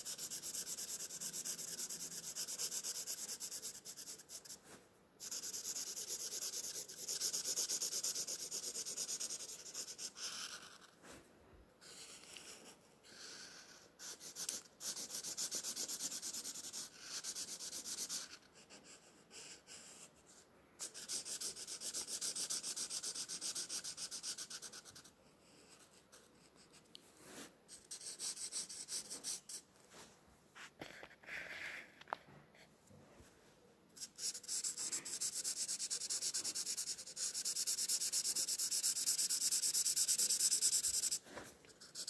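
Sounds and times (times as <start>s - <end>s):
marker rubbing on paper: 0.0s - 11.0s, 11.8s - 20.1s, 20.8s - 29.6s, 34.0s - 42.0s.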